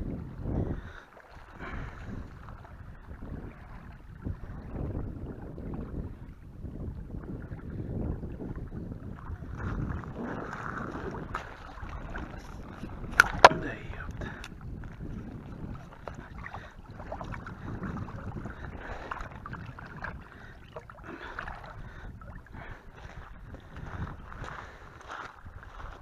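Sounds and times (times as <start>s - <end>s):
wind gusting over microphone: 0.0s - 1.0s, 1.6s - 26.0s.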